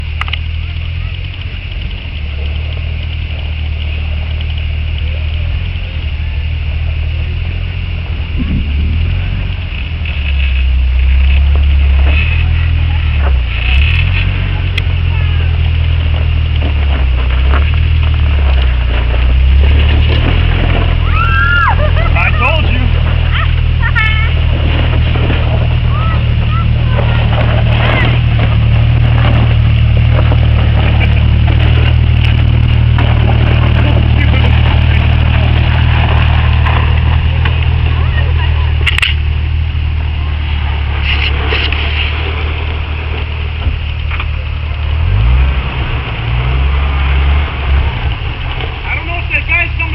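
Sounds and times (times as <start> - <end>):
car engine running: 0.0 - 49.9
vehicle knocks and jolts: 0.0 - 49.9.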